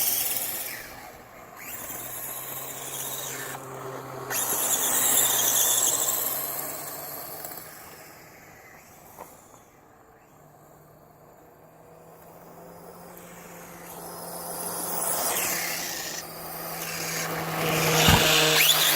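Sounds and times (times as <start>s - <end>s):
electric motor whining: 0.0s - 9.5s, 11.9s - 18.9s.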